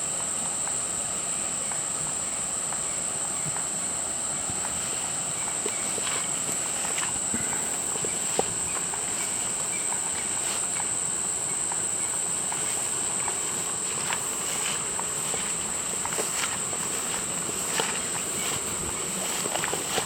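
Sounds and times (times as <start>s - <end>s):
background hiss: 0.0s - 20.0s
shrill insect chorus: 0.0s - 20.0s.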